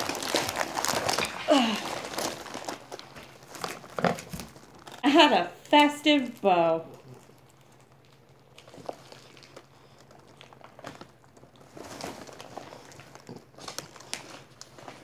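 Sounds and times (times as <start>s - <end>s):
wrapping paper rustling: 0.0s - 15.0s.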